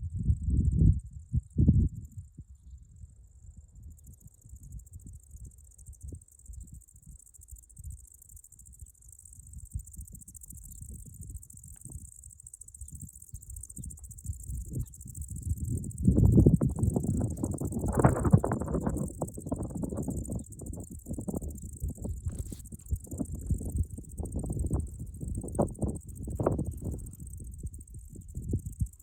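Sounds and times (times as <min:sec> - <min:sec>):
insects trilling: 0:02.3 - 0:29.0.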